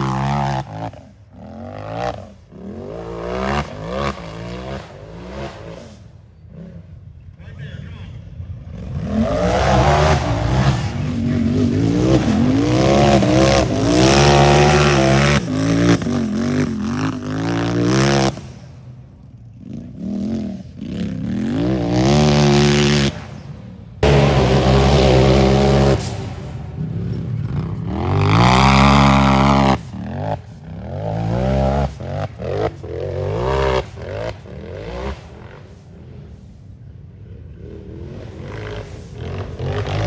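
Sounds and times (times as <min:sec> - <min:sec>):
race vehicle engine revving: 0:00.0 - 0:07.4, 0:08.2 - 0:40.0.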